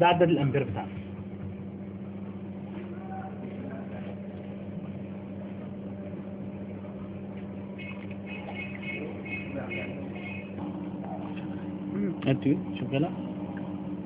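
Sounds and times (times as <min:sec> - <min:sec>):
sealing machine electrical hum: 0:00.0 - 0:14.0.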